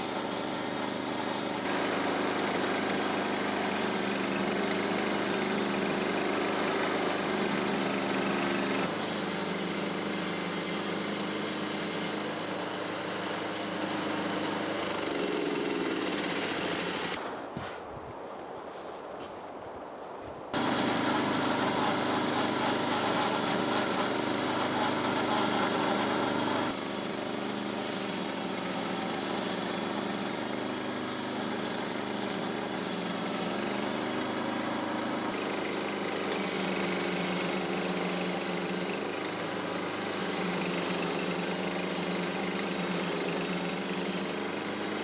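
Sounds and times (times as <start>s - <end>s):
small gasoline engine running: 0.0s - 17.2s, 20.6s - 45.0s.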